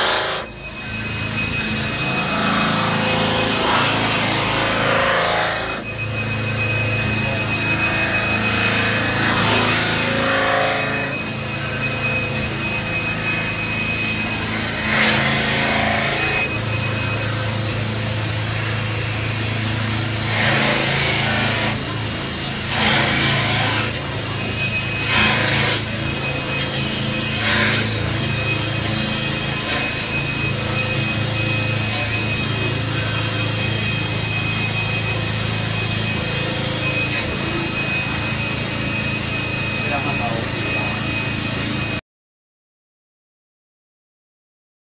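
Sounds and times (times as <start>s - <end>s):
metal spinning lathe humming: 0.0s - 42.0s.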